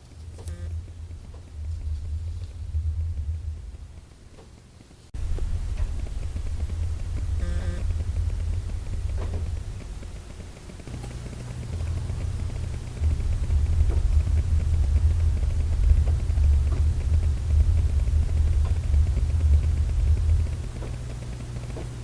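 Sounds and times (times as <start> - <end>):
deep seismic rumble: 0.0 - 22.0.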